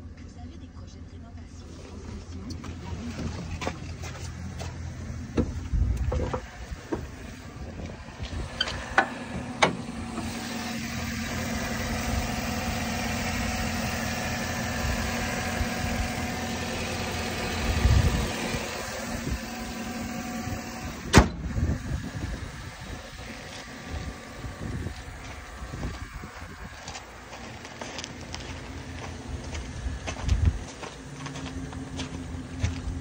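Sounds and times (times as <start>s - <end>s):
pickup engine idling: 0.0s - 33.0s.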